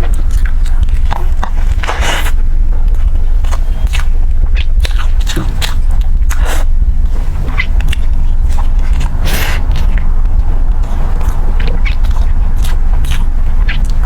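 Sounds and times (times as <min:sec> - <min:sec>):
chewing and biting food: 0:00.0 - 0:14.0
low hum: 0:00.0 - 0:14.0.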